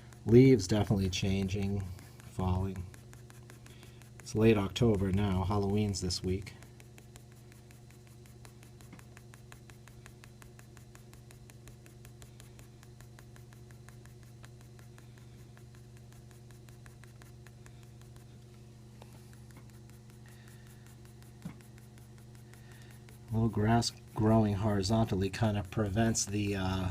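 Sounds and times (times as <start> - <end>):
low electrical hum: 0.0 - 26.9
pencil strokes scratching on paper: 0.0 - 26.9.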